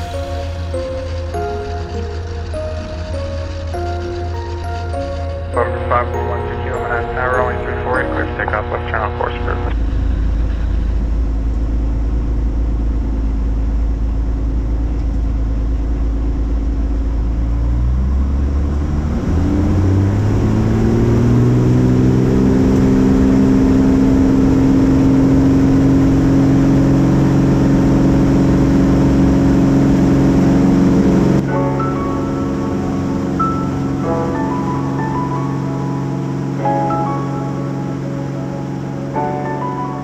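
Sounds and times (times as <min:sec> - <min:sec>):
aircraft engine and propeller: 0:00.0 - 0:40.0.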